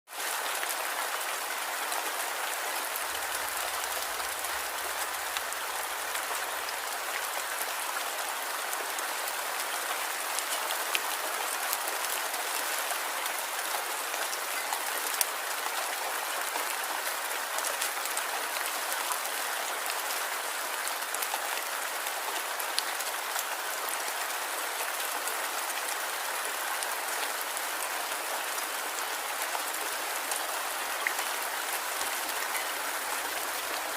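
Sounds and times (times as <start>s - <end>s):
light rain falling: 0.1s - 33.9s.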